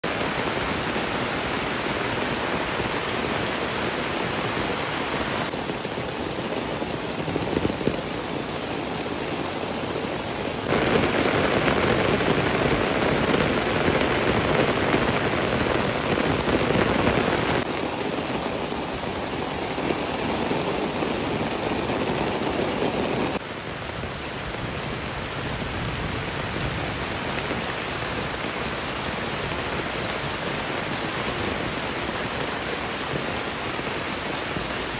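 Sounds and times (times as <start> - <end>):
heavy rain on path and foliage: 0.0 - 34.9.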